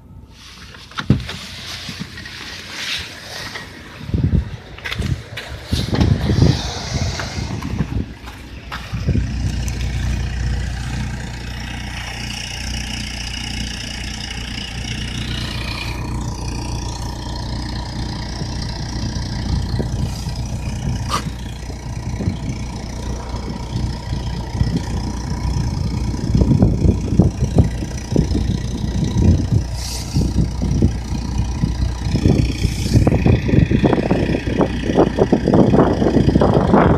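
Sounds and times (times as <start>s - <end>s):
car engine cranking and idling: 0.0s - 36.9s
uneven low rumbling: 1.1s - 36.9s.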